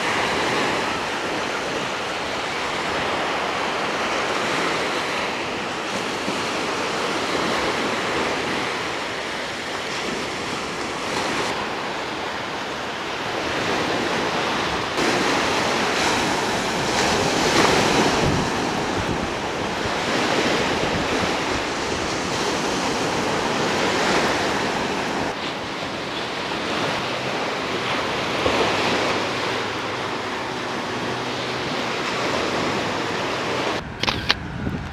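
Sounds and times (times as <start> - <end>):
small surf breaking on beach: 0.0 - 34.9.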